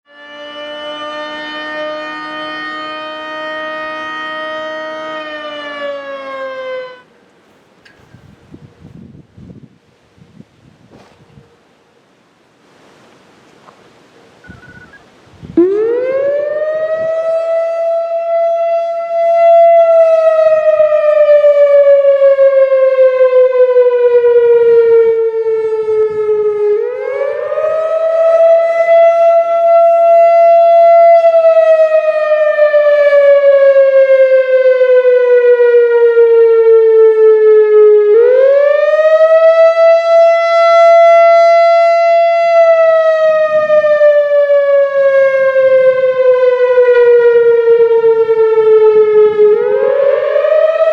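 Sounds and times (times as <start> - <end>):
warning siren wailing: 0.0 - 7.2, 14.4 - 50.9.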